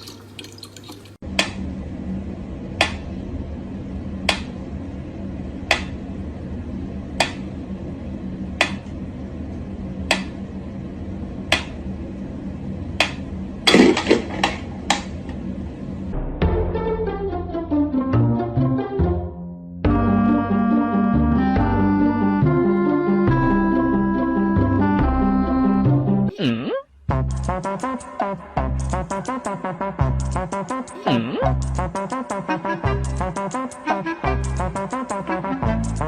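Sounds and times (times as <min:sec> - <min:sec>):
steady low hum: 0:01.2 - 0:16.6, 0:19.8 - 0:36.0.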